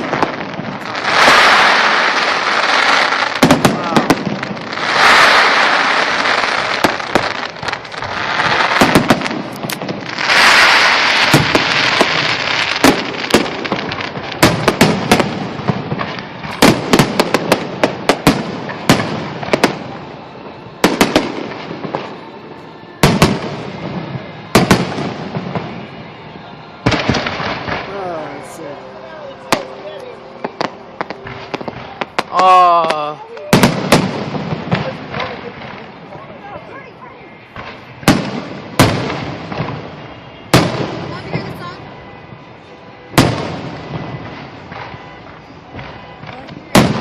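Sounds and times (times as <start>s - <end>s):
fireworks bangs: 0.0s - 47.0s.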